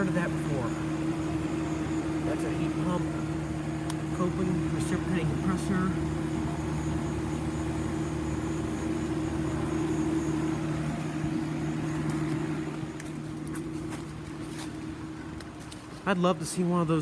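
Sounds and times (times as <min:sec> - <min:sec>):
compressor hum: 0:00.0 - 0:17.0
condenser fan rushing: 0:00.0 - 0:17.0.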